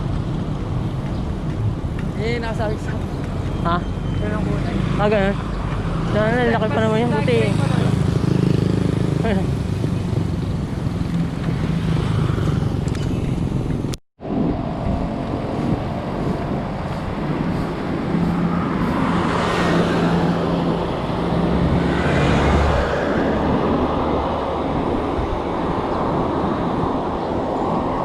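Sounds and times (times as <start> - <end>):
vehicle engine: 0.0 - 27.9
road and wind noise: 0.0 - 28.0.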